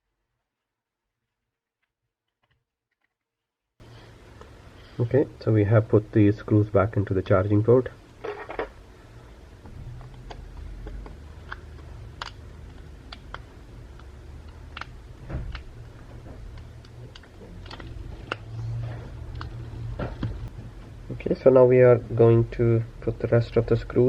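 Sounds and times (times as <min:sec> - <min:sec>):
low steady hum: 0:03.8 - 0:24.0.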